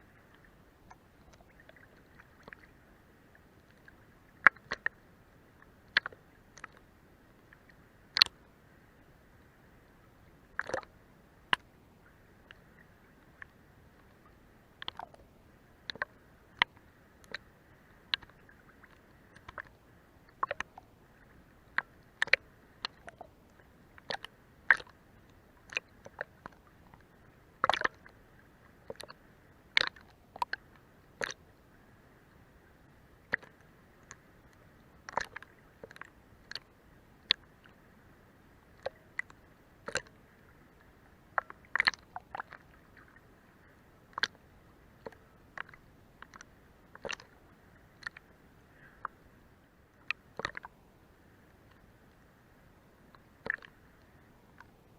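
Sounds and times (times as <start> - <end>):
faint steady hiss: 0.0 - 54.9
water lapping under boat hull: 0.0 - 54.9.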